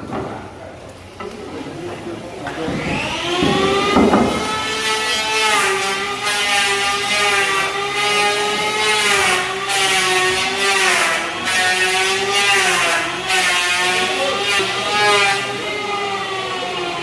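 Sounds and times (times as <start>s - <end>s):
power tool motor cutting wood: 2.5s - 17.0s.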